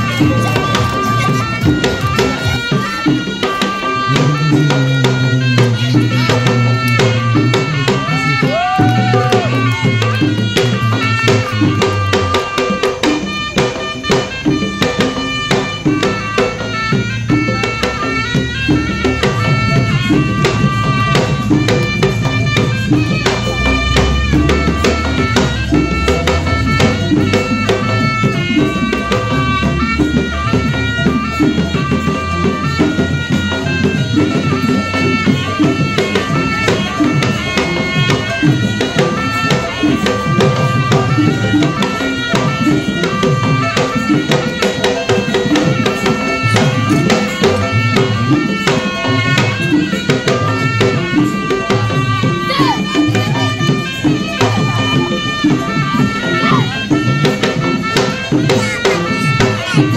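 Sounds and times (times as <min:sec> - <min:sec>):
fast steady drum beats: 0:00.0 - 0:59.9
melody of held notes: 0:09.3 - 0:59.9.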